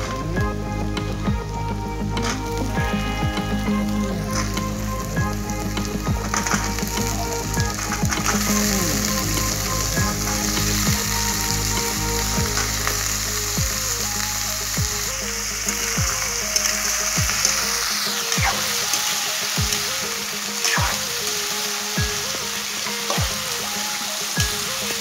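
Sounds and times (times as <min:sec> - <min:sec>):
potatoes sizzling in hot oil: 0:02.5 - 0:25.0.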